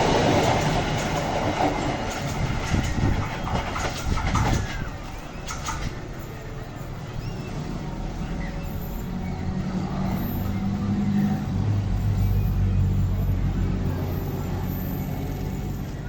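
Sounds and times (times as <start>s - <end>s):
locomotive engine rumbling: 0.0s - 16.0s.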